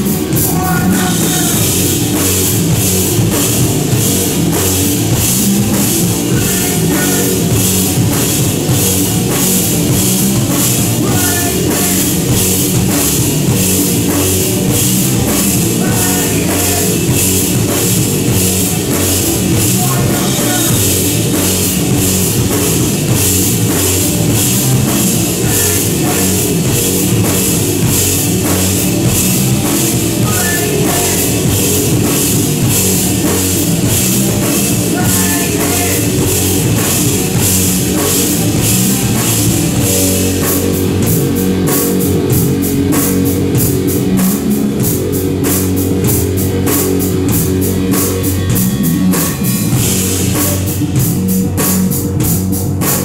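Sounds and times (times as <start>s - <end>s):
loud rock band playing: 0.0s - 53.0s.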